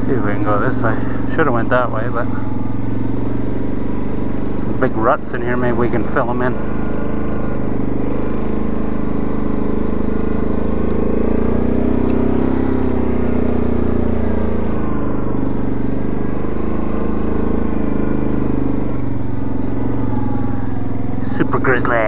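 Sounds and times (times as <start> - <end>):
quad bike engine running: 0.0 - 22.0.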